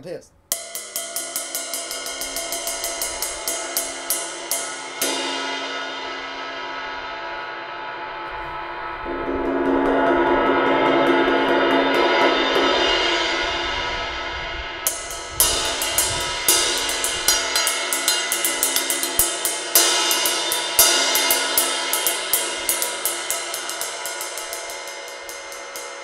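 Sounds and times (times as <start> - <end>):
ride cymbal struck and ringing: 0.5 - 26.0.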